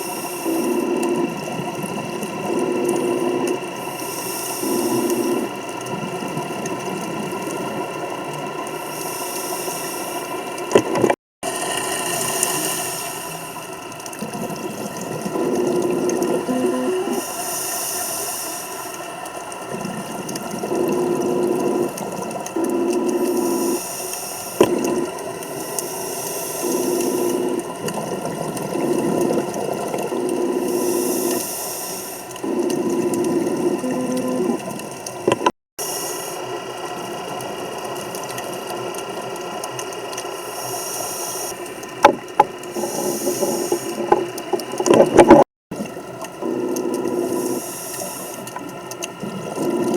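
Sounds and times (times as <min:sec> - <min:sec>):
buzzing scuba regulator inhale: 0:00.0 - 0:08.0, 0:08.6 - 0:37.3, 0:40.0 - 0:45.5, 0:46.2 - 0:49.9
hissing exhaled bubbles: 0:00.0 - 0:49.9.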